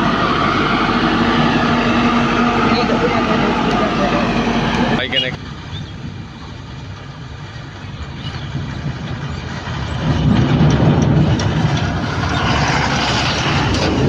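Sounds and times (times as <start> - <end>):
heavy diesel engine running: 0.0 - 8.1, 8.9 - 14.0.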